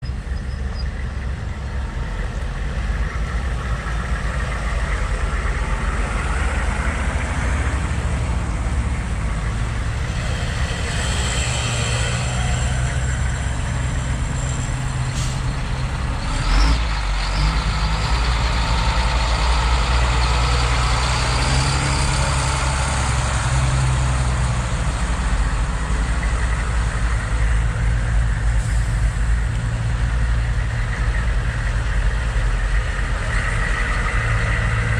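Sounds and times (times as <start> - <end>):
truck engines rumbling: 0.0 - 34.9.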